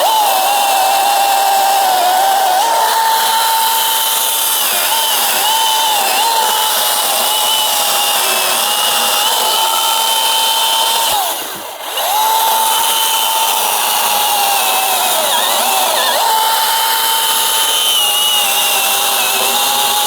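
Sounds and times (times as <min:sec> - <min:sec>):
electric chainsaw cutting log: 0:00.0 - 0:20.0.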